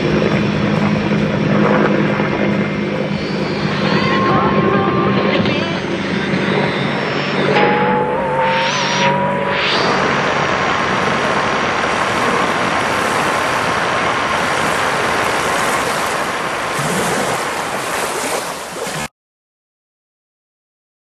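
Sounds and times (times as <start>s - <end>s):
loud rushing noise: 2.1s - 19.1s.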